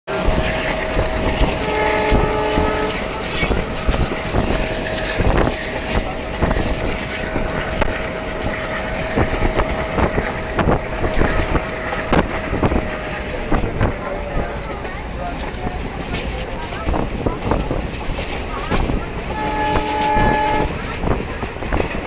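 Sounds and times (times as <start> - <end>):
vehicle engine rumbling: 0.1 - 22.0.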